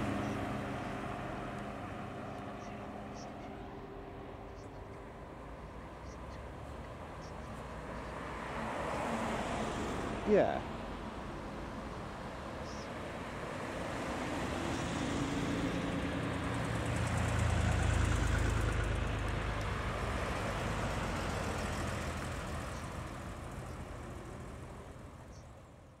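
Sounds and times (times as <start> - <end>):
car engines driving slowly past: 0.0 - 26.0.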